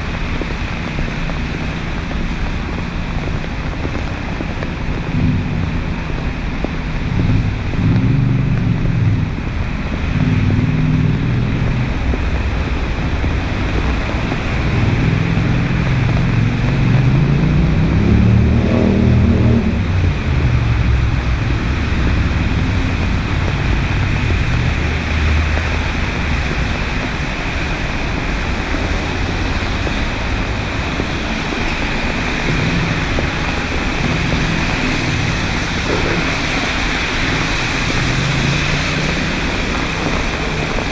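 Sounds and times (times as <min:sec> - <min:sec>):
cars going by: 0:00.0 - 0:40.9
steady traffic hiss: 0:00.0 - 0:40.9.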